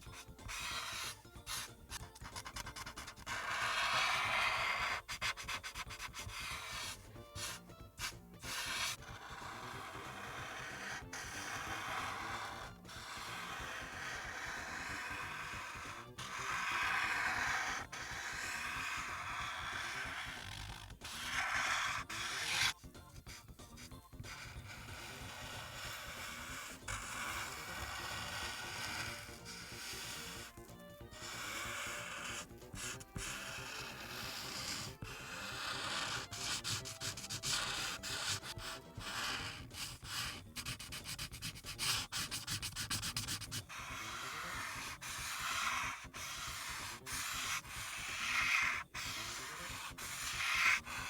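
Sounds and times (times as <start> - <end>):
marker scrubbing on paper: 0.0 - 51.0.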